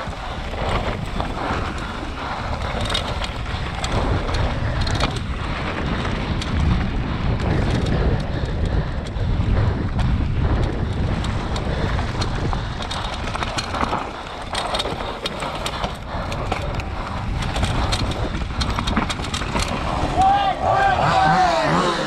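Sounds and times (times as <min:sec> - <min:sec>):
bike clicking and rattling: 0:00.0 - 0:22.0
bike tyre noise: 0:00.0 - 0:22.0
wind rumbling on microphone: 0:00.0 - 0:22.0.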